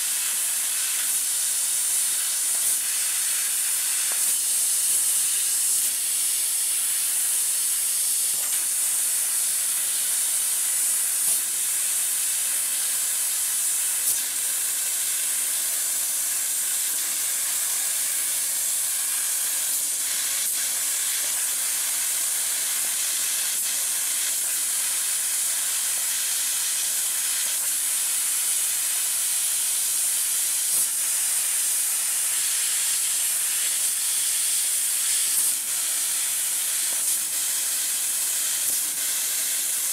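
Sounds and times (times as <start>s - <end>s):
laser cutter gas jet hiss: 0.0s - 39.9s.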